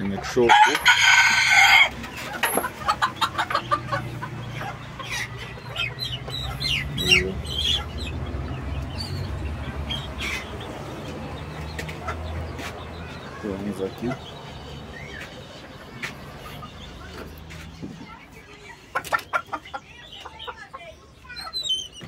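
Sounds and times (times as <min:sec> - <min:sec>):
chickens clucking: 0:00.0 - 0:22.0
chicks peeping: 0:00.0 - 0:22.0.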